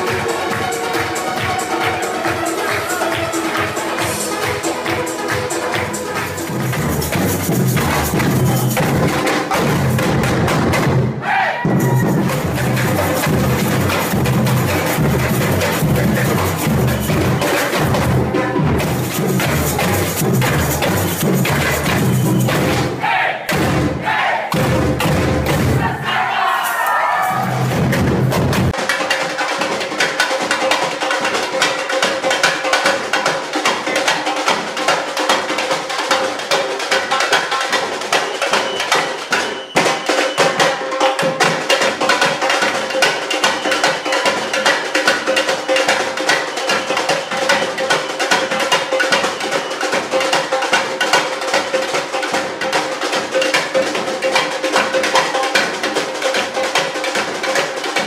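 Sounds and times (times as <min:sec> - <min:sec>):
samba drum group playing: 0:00.0 - 0:58.0.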